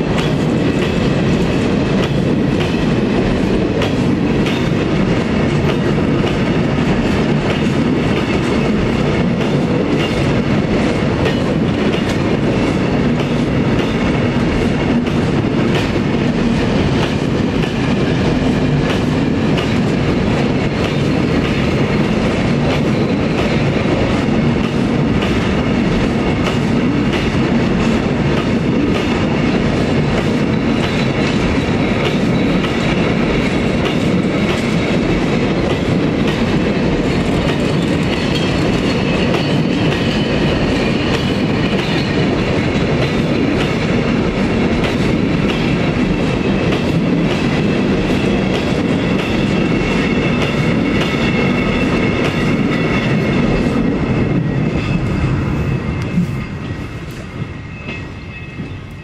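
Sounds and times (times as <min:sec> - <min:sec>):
clickety-clack over rail joints: 0:00.0 - 0:59.0
freight wagons rolling on rails: 0:00.0 - 0:59.0.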